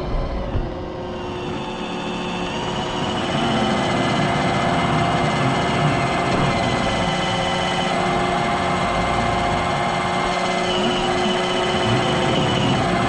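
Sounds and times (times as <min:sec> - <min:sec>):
robot vacuum running: 0:00.0 - 0:13.0.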